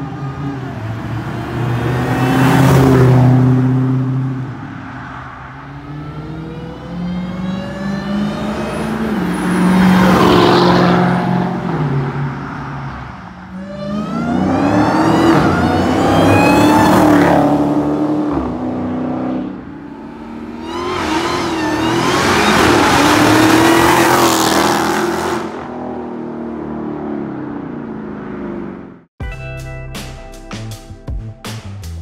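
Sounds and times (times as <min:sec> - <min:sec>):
car engine accelerating hard: 0:00.0 - 0:29.1.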